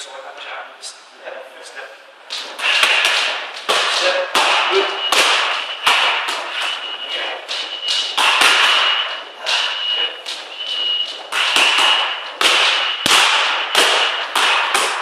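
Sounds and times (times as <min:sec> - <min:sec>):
boxing gloves slapping mitts: 0:02.3 - 0:15.0.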